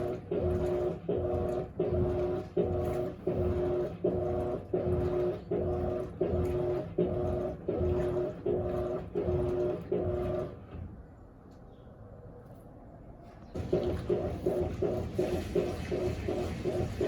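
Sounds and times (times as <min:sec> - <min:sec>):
washing machine agitating: 0:00.0 - 0:11.2, 0:13.5 - 0:17.0.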